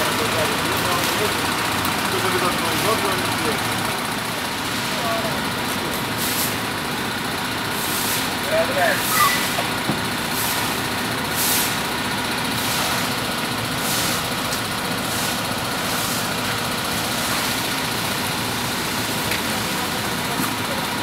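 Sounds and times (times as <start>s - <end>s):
heavy vehicle engine idling: 0.0s - 21.0s.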